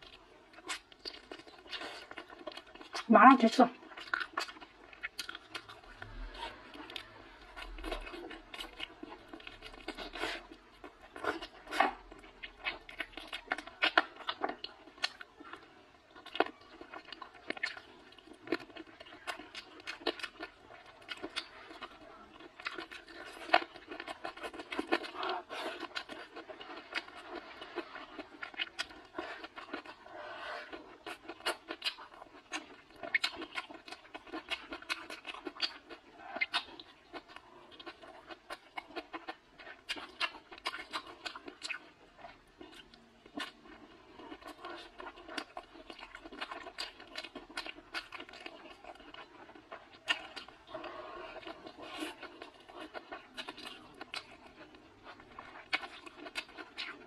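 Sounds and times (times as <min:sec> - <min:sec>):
person chewing crunchy food: 0:00.0 - 0:03.1, 0:03.7 - 0:57.0.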